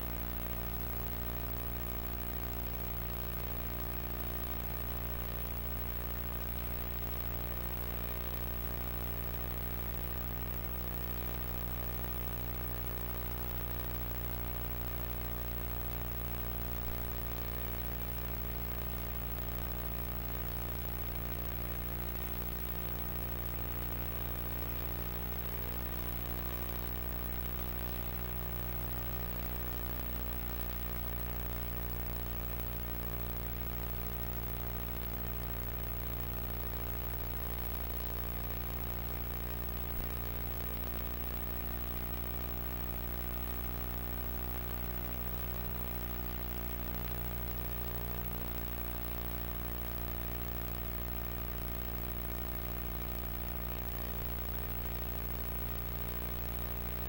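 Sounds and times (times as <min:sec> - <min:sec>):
electrical hum: 0:00.0 - 0:57.0
tape hiss: 0:00.0 - 0:57.0.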